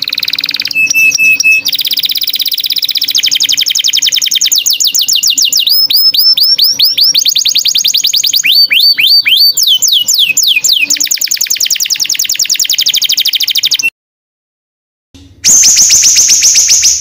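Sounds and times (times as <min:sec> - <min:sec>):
songbird whistling and trilling: 0:00.0 - 0:13.9, 0:15.4 - 0:17.0.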